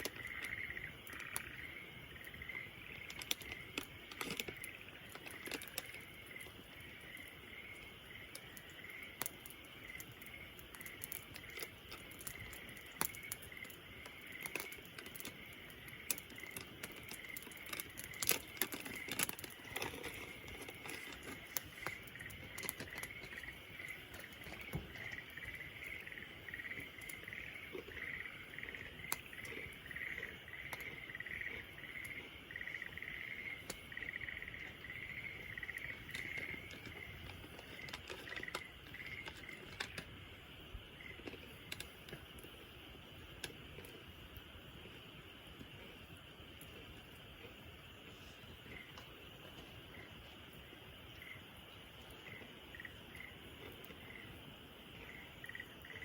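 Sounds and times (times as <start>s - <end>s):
campfire crackling and popping: 0.0s - 56.0s
insects chirping: 0.0s - 56.0s.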